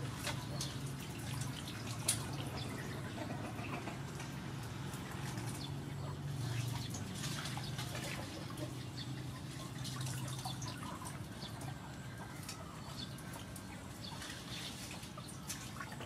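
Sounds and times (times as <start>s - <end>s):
water splashing in basin: 0.0s - 3.1s, 4.6s - 11.8s, 13.0s - 16.0s.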